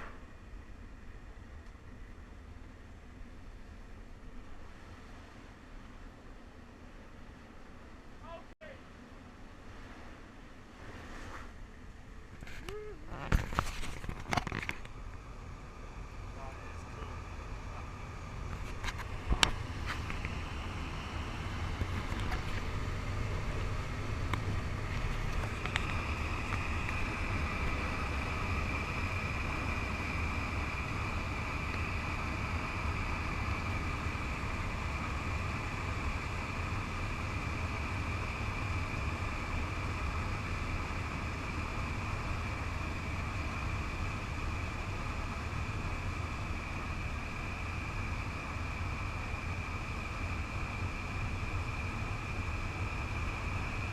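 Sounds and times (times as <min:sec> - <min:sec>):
high turbine whine: 0:00.0 - 0:53.9
turboprop engine droning: 0:00.0 - 0:53.9
airflow rushing: 0:09.0 - 0:53.9.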